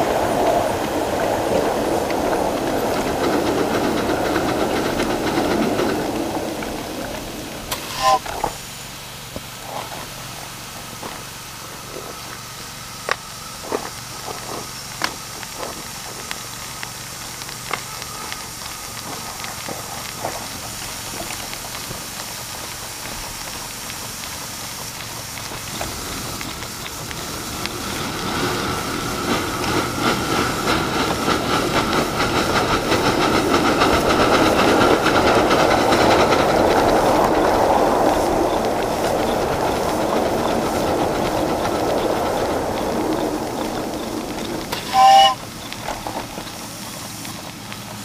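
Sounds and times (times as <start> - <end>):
model steam train wheels rattling: 0.0 - 48.0.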